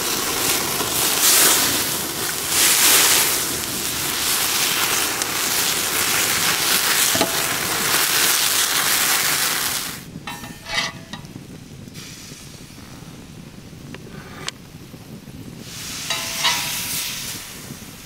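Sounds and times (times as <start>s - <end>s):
prawns sizzling in hot oil: 0.0s - 12.8s, 15.4s - 18.0s.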